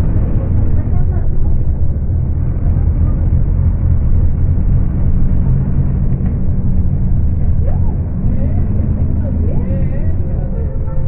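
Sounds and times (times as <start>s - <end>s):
bus engine at high revs: 0.0s - 11.0s.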